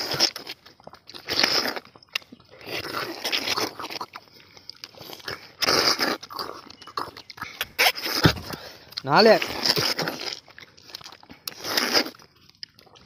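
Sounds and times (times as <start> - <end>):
slurping and chewing fruit: 0.0 - 13.0.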